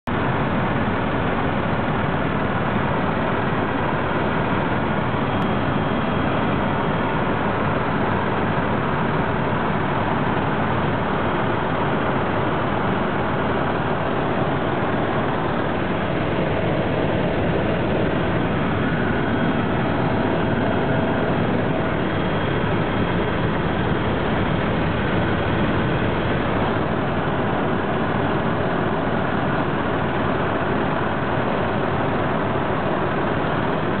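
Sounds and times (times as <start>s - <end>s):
helicopter engine and rotor drone: 0.1s - 34.0s.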